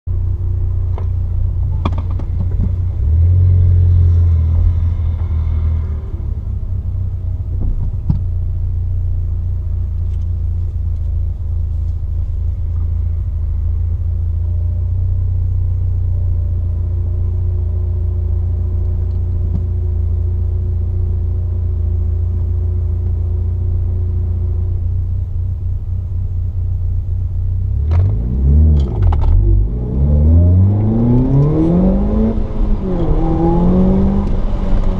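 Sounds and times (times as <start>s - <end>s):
car engine rumbling and revving: 0.1s - 34.9s.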